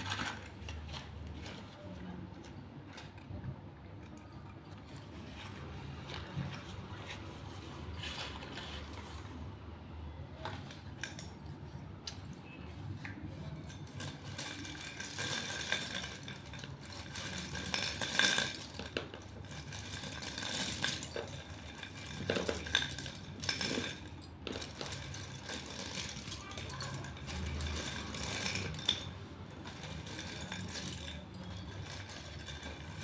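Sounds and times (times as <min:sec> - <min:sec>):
slate pencils clinking: 0:00.0 - 0:09.5, 0:10.3 - 0:33.0.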